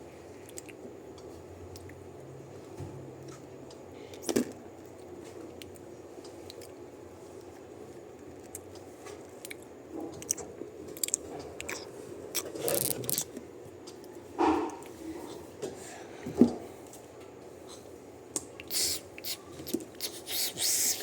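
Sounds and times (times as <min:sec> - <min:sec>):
crunching and clicking noises: 0:00.4 - 0:02.0, 0:03.2 - 0:15.0, 0:16.8 - 0:20.8.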